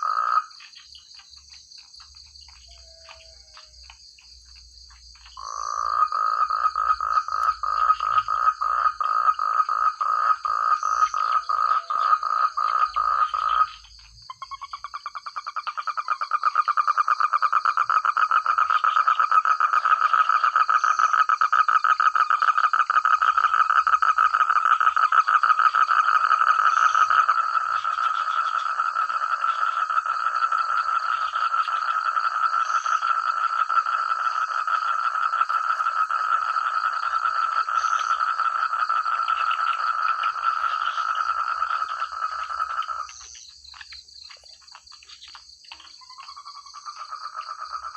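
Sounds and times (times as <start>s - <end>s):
frog pulsed croaking: 0.0s - 47.9s.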